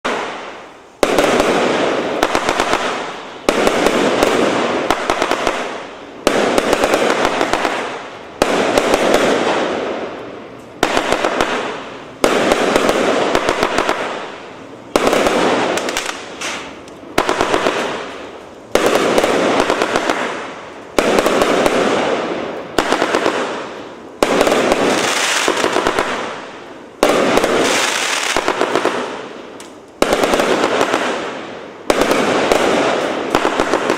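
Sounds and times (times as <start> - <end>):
fireworks bursts with crackle: 0.0 - 33.9.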